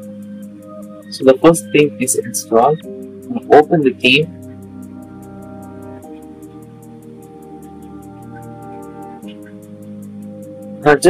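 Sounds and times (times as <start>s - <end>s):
soft held chords: 0.0s - 11.0s.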